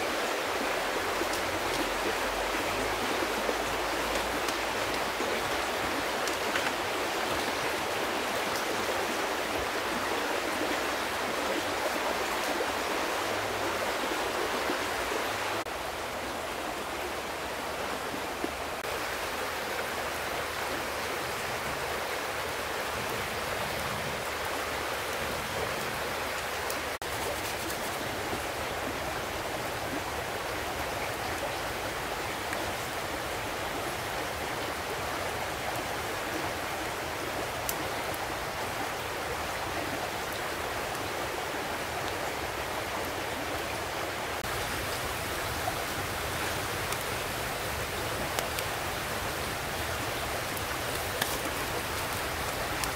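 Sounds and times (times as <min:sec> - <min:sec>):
fast-flowing river rushing: 0:00.0 - 0:52.9.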